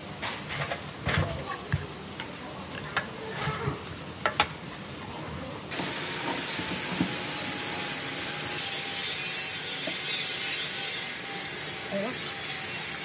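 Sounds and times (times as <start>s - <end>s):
steady loud hiss: 1.9s - 13.0s.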